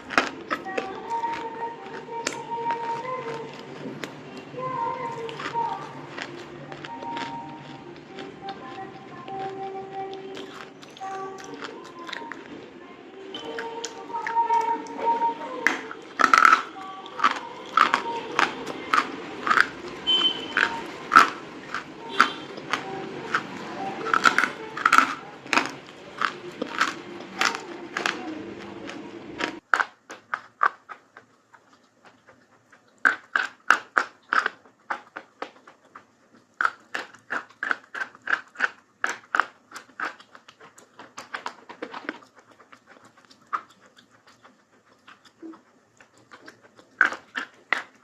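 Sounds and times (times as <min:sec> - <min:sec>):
crisp crunchy chewing: 0:00.0 - 0:48.0
steady background noise: 0:00.0 - 0:48.0.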